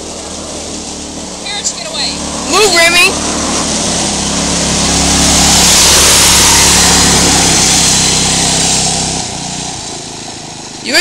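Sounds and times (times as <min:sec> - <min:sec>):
go-kart engine driving past: 0:00.0 - 0:11.0.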